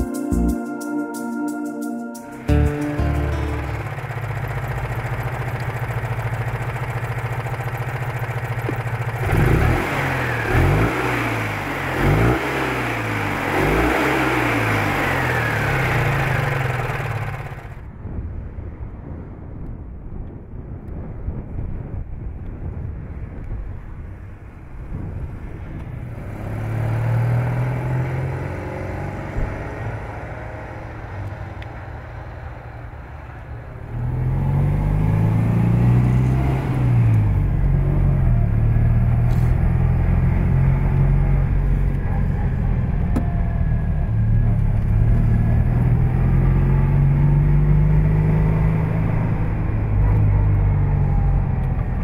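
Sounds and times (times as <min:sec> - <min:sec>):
small car engine driving: 0:02.3 - 0:18.0, 0:24.0 - 0:52.0.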